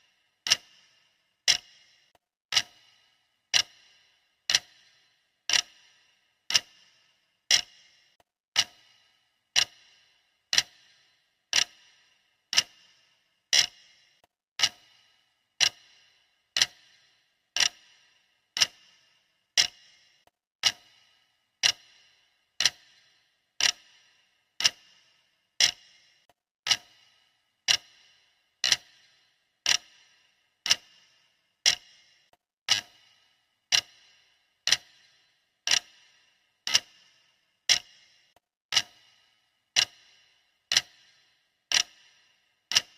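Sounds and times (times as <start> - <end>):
clock ticking: 0.0 - 42.9.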